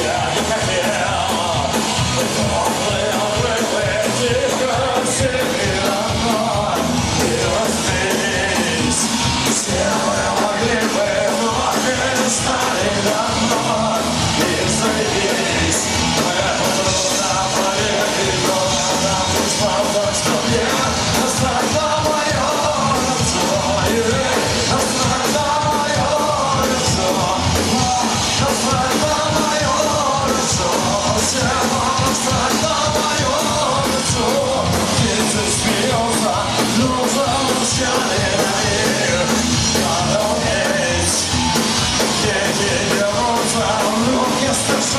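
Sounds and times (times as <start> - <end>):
bass guitar: 0.0 - 44.9
drums: 0.0 - 44.9
electric guitars: 0.0 - 44.9.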